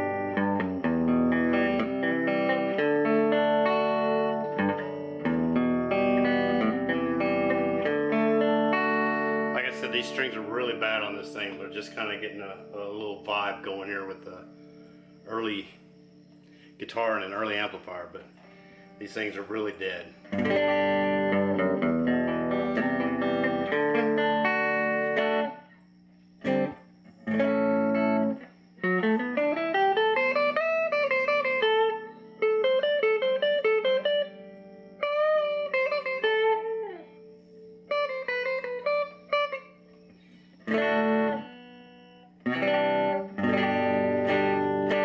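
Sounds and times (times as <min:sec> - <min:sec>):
clean electric guitar playing: 0:00.0 - 0:14.6, 0:18.8 - 0:25.6, 0:26.4 - 0:45.0.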